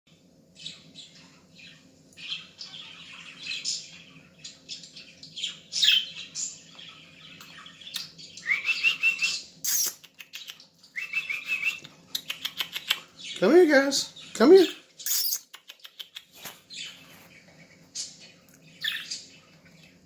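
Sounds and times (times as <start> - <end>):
budgerigars chirping: 0.6 - 19.7.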